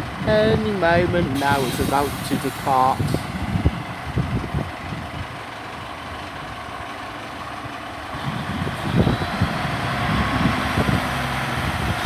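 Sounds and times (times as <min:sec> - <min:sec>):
diesel train engines idling: 0:00.0 - 0:12.0.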